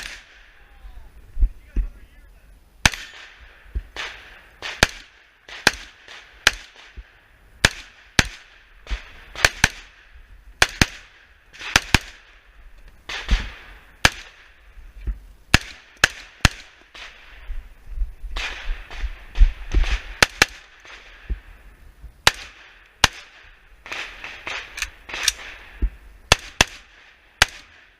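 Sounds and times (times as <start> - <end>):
rifle shots with echo: 0.0 - 0.6, 2.8 - 12.5, 13.1 - 14.7, 15.5 - 17.4, 18.4 - 21.5, 22.2 - 27.9.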